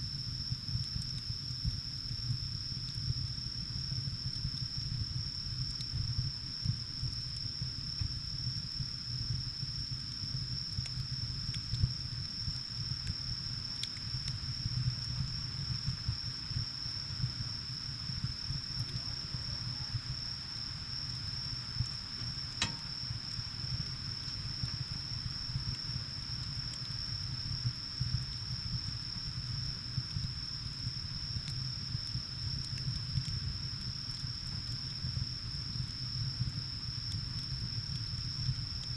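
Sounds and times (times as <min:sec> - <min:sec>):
high-pitched insect trill: 0:00.0 - 0:38.9
wood fire rumbling and crackling: 0:00.0 - 0:38.9.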